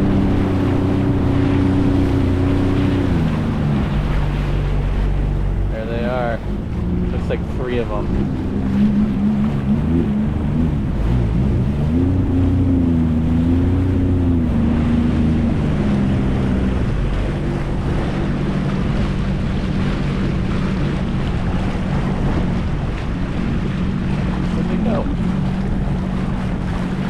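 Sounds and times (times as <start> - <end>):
jet ski engine running: 0.0 - 27.0
water rushing: 0.0 - 27.0
wind buffeting microphone: 0.0 - 27.0.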